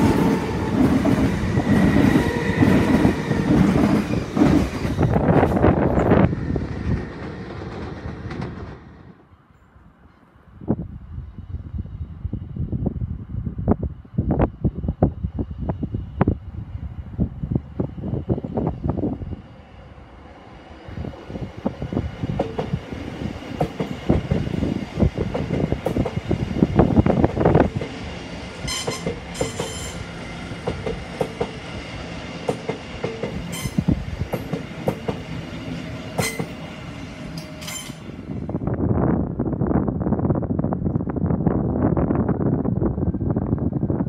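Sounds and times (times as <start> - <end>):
passenger train passing: 0.0 - 44.0.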